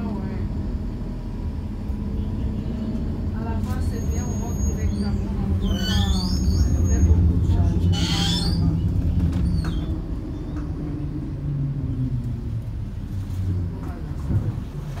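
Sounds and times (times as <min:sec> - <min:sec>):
tram motor hum: 0:00.0 - 0:15.0
tram running rumble: 0:00.0 - 0:15.0.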